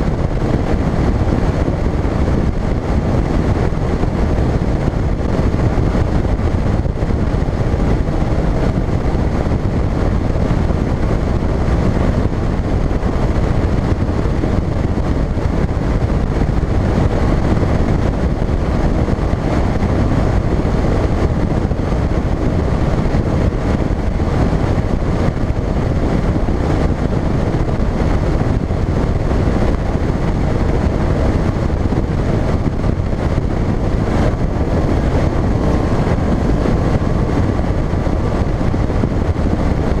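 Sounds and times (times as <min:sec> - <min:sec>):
outboard motor: 0:00.0 - 0:40.0
wind on microphone: 0:00.0 - 0:40.0.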